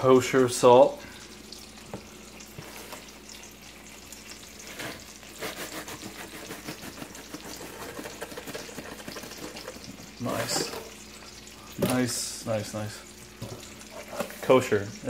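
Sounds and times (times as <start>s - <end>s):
chicken sizzling in a pan: 0.0s - 15.0s.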